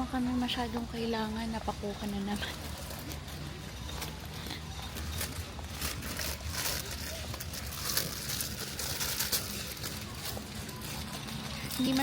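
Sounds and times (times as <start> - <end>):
rustling: 1.4 - 12.0.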